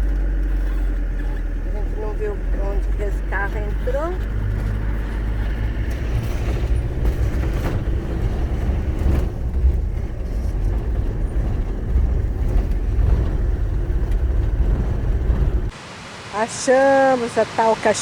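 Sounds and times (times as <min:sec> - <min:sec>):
car knocking over bumps: 0:00.0 - 0:15.7
car engine and road rumble: 0:00.0 - 0:15.9.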